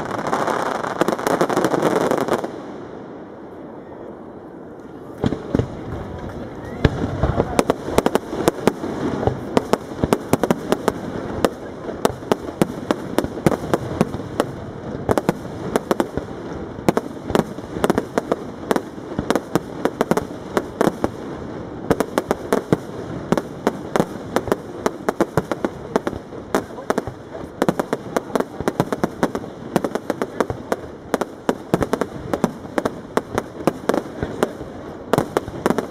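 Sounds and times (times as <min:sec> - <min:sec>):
continuous rumble: 0:03.2 - 0:35.9.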